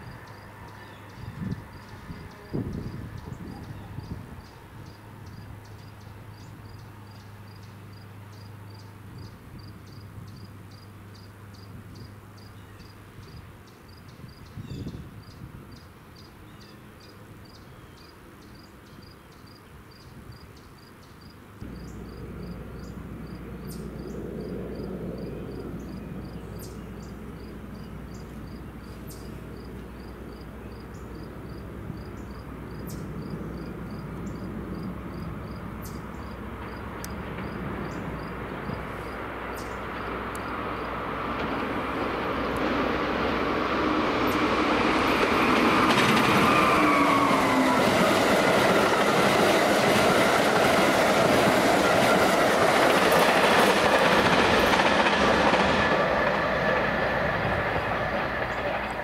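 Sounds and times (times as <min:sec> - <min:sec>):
approaching train rumble: 0:00.0 - 0:20.4, 0:21.5 - 0:59.0
insects chirping: 0:00.0 - 0:59.0.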